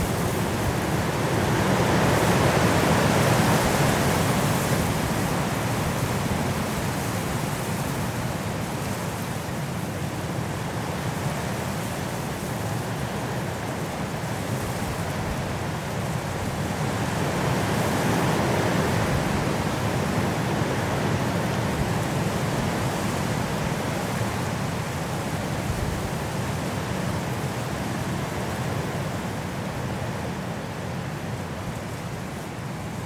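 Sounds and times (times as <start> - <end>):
strong wind rushing through trees: 0.0 - 33.0.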